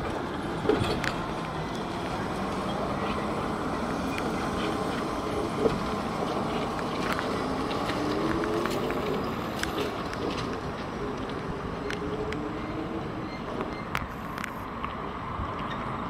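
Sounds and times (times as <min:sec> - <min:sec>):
road and tyre noise: 0:00.0 - 0:16.0.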